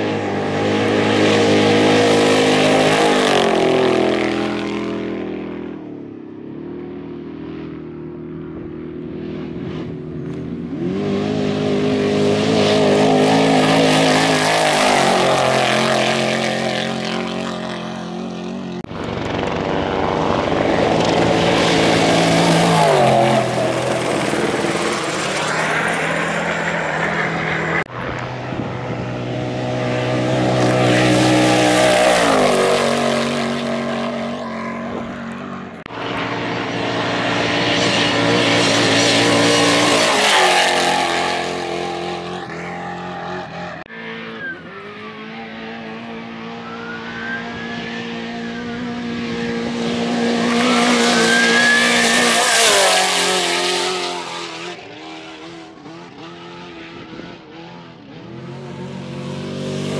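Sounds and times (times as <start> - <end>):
race trucks passing at speed: 0.0 - 5.9, 7.3 - 59.9.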